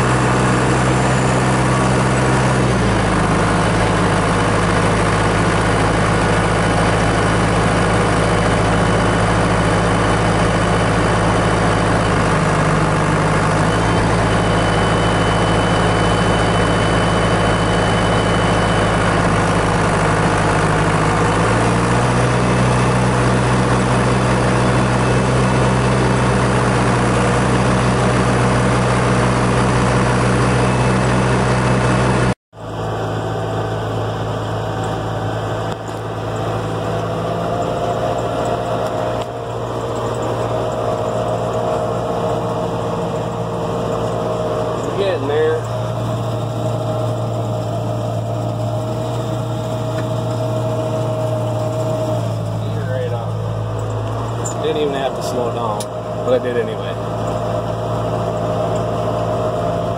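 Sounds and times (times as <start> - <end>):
diesel tractor running under load: 0.0 - 59.9.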